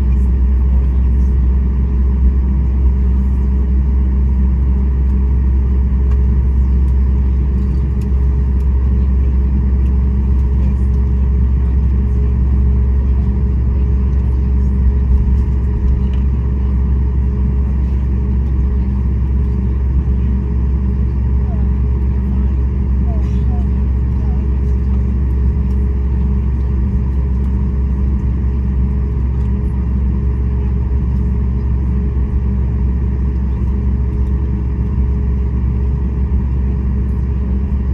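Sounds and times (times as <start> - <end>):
airplane cabin engine rumble: 0.0 - 37.9.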